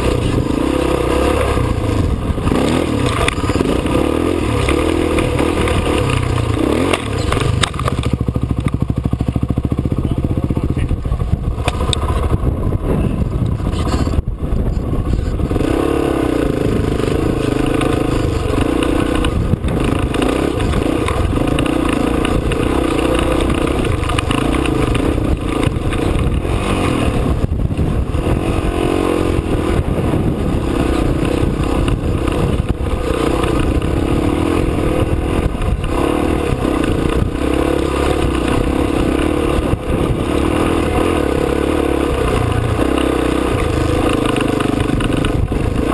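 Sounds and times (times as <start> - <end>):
motorbike engine revving: 0.0 - 45.9
bike rattling over stones: 1.4 - 10.0, 13.3 - 15.5, 16.8 - 28.6, 29.2 - 45.9.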